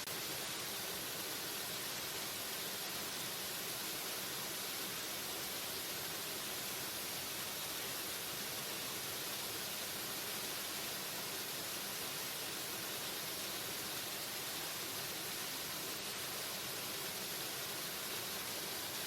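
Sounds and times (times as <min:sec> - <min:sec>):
waterfall hissing: 0:00.0 - 0:19.0.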